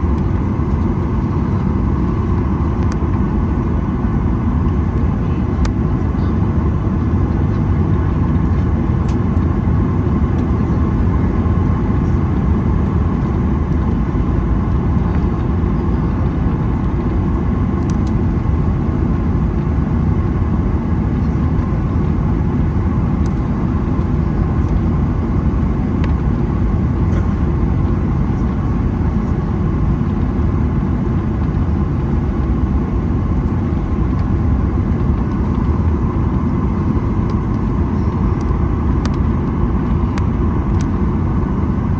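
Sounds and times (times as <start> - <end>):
jet engine rumble: 0.0 - 41.9.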